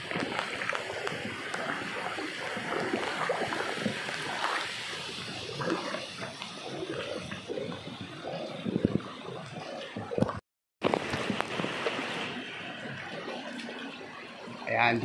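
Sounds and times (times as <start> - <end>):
water splashes: 0.0 - 15.0.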